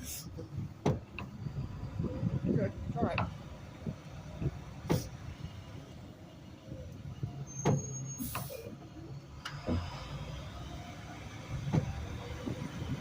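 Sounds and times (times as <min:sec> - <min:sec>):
garbage truck engine rumbling: 0:00.0 - 0:13.0.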